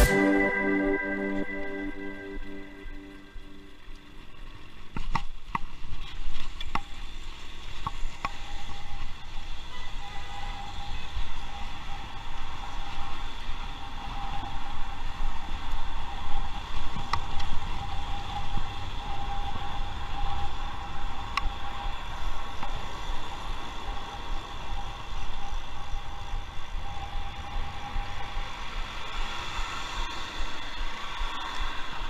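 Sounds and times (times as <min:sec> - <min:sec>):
bicycle tyre and road noise: 0:03.2 - 0:32.0.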